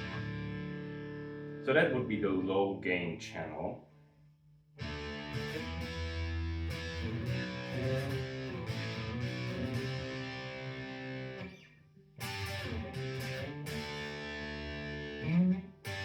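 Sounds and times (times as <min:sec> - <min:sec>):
overdriven electric guitar: 0:00.0 - 0:01.7, 0:04.8 - 0:16.0.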